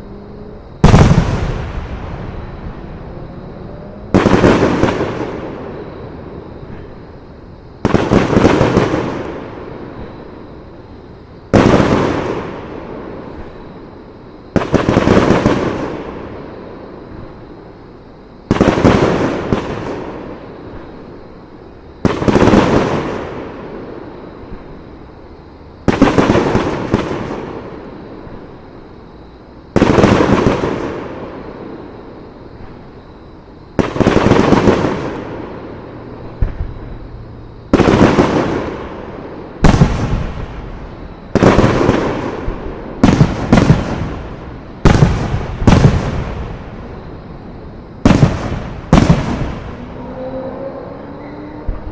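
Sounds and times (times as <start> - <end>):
fireworks booming: 0.8 - 17.6, 18.5 - 28.6, 29.7 - 50.3.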